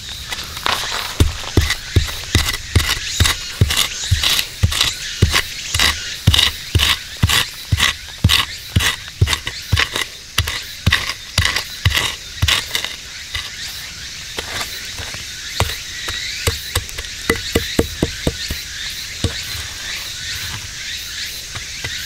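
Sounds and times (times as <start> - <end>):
stick scraping gravelly soil: 0.0 - 22.0.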